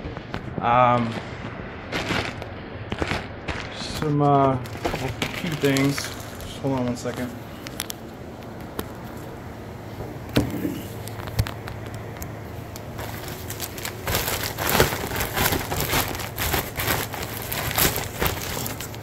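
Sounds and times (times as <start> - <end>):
plastic bag crinkling and rustling: 0.1 - 9.4, 10.5 - 19.0.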